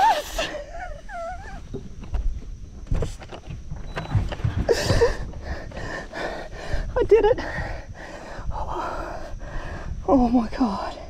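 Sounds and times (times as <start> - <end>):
wind rumble on microphone: 1.7 - 11.0.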